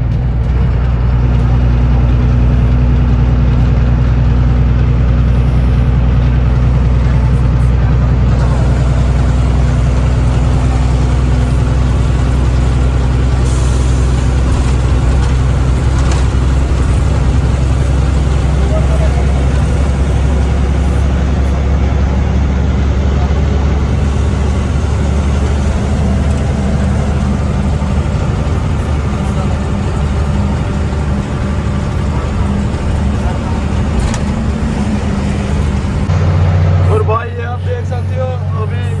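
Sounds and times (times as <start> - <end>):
road noise: 0.0 - 39.0
truck engine droning: 0.0 - 39.0.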